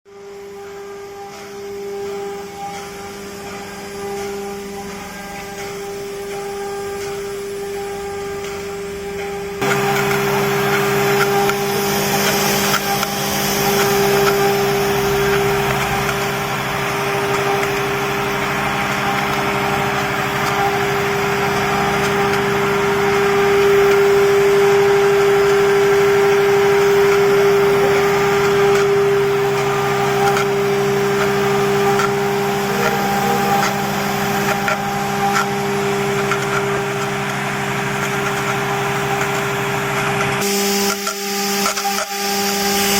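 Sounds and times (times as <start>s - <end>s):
cnc router spindle whine: 0.1s - 42.9s.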